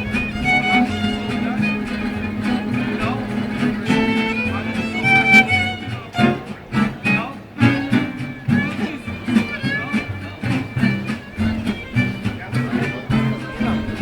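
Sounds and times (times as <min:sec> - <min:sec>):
fiddle melody: 0:00.0 - 0:14.0
rhythmic accompaniment with beat: 0:00.0 - 0:14.0.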